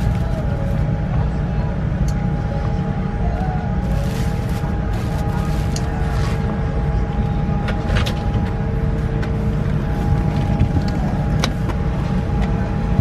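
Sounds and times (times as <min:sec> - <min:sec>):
aircraft cabin air rumble: 0:00.0 - 0:13.0
faint steady hum tones: 0:00.0 - 0:13.0.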